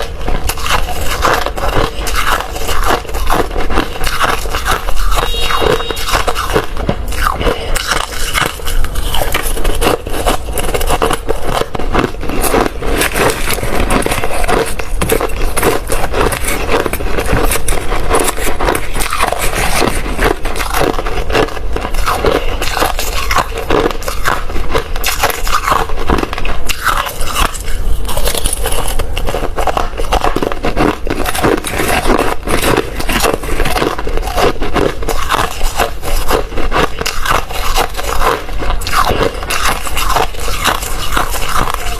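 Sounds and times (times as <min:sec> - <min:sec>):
ice crunching being chewed: 0:00.0 - 0:41.9.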